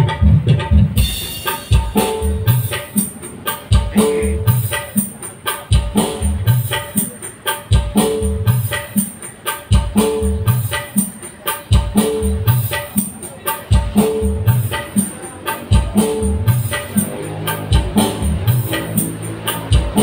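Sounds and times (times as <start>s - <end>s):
heavy bass beat over loudspeakers: 0.0s - 20.0s
tambourine-like percussion: 1.0s - 20.0s.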